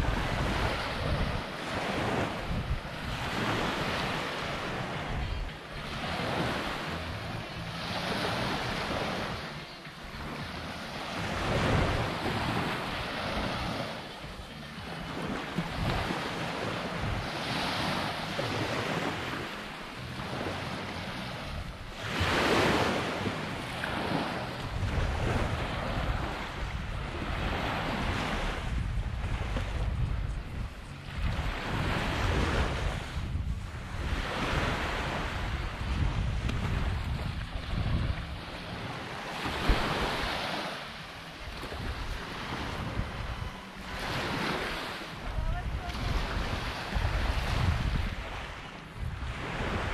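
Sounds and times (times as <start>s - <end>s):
small waves breaking on beach: 0.0s - 49.9s
wind rumbling on microphone: 0.0s - 49.9s.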